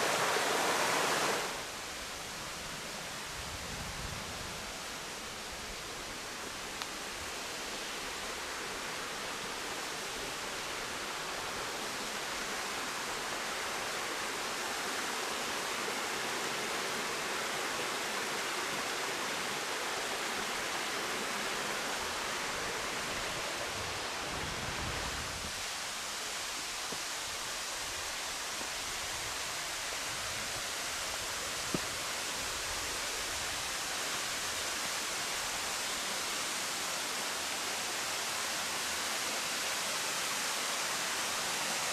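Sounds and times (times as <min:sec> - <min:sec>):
rushing waterfall: 0:00.0 - 0:41.9.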